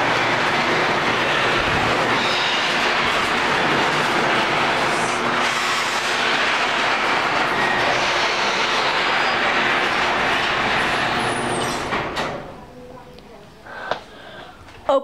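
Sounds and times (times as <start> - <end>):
garage door opener running: 0.0 - 12.8.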